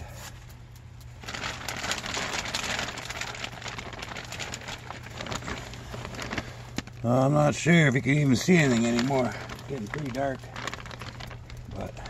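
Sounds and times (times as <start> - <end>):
rain pattering on plastic sheeting: 0.0 - 12.0.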